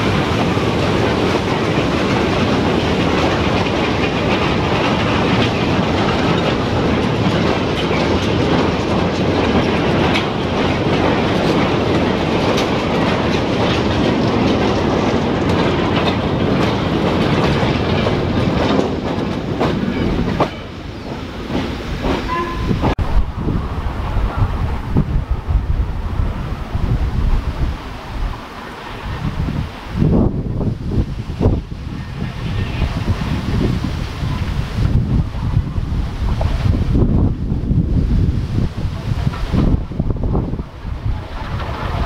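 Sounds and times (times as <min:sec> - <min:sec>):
train wheels clattering over rails: 0:00.0 - 0:23.0, 0:23.9 - 0:42.0.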